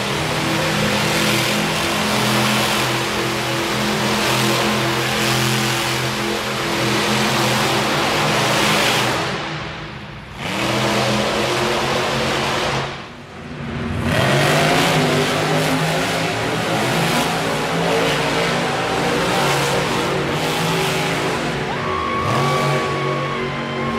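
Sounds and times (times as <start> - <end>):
monster truck engine at high revs: 0.0 - 23.9.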